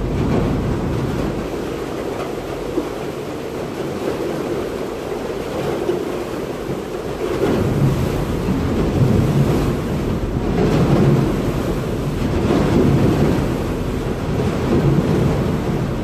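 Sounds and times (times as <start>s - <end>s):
wind buffeting microphone: 0.0s - 4.5s, 5.5s - 16.0s
ferry engine rumble: 0.0s - 16.0s
water churning: 0.0s - 16.0s.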